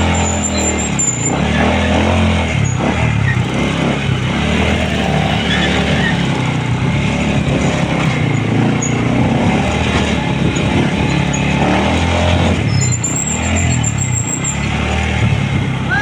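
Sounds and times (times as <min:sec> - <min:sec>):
road and wind noise: 0:00.0 - 0:16.0
vehicle engine humming: 0:00.0 - 0:16.0.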